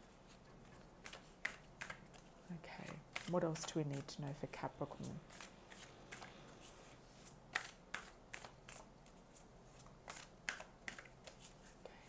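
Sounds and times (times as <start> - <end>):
cards shuffled by hand: 0.3 - 11.8.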